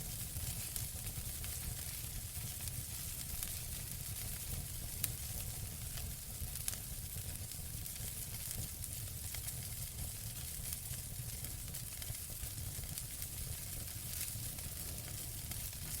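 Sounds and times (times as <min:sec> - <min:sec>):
low rumble of fire: 0:00.0 - 0:16.0
wood fire crackling: 0:00.0 - 0:16.0.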